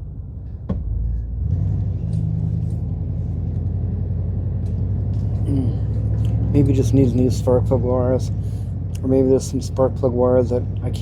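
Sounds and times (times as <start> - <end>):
engine droning inside car: 0.0 - 11.0.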